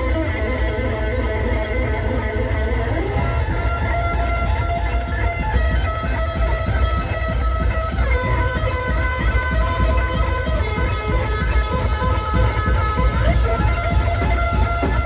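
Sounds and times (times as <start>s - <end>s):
fast pounding drums: 2.9s - 15.0s.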